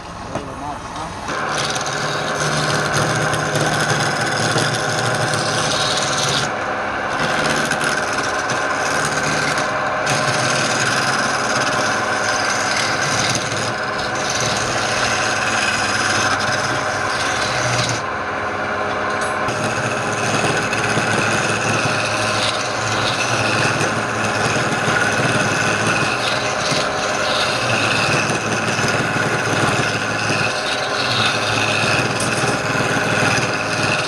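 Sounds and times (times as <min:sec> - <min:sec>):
lathe motor hum: 0:00.0 - 0:34.0
turning tool scraping wood: 0:01.3 - 0:18.1, 0:19.3 - 0:34.0.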